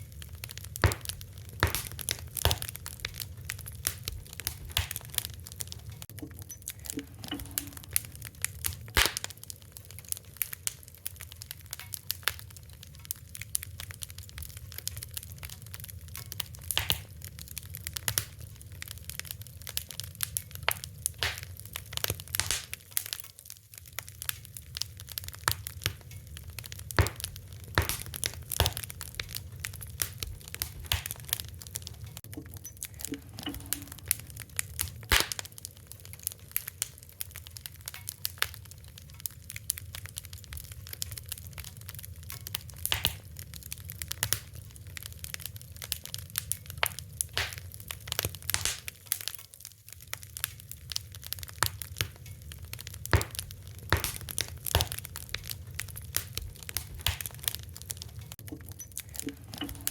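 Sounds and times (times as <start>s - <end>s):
fire crackling and popping: 0.0s - 59.9s
low fire rumble: 0.0s - 59.9s.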